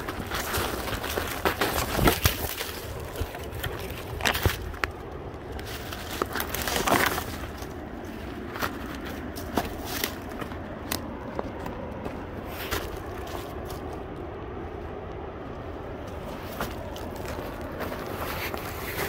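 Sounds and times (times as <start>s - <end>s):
footsteps on a trail: 0.0s - 14.6s, 15.3s - 19.0s.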